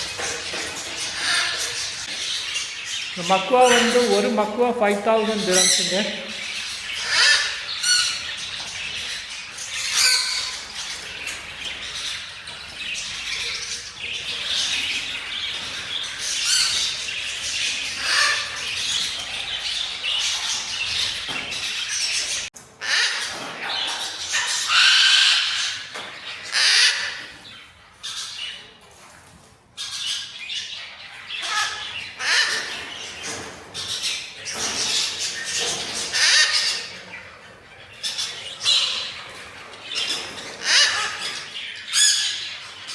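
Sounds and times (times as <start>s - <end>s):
parrots squawking and screeching: 0.0s - 28.6s, 29.8s - 42.9s.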